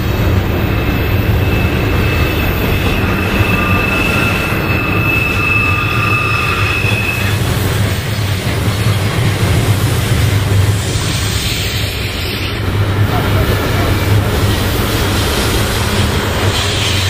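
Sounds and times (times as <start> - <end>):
train wheels rumbling on rail: 0.0 - 17.0
high wheel squeal: 0.7 - 8.4, 10.8 - 17.0.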